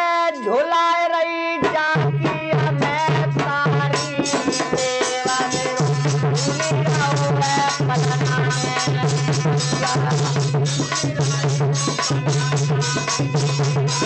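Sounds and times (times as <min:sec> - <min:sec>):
dholak drum rhythm: 0:00.0 - 0:14.0
harmonium melody: 0:00.0 - 0:14.0.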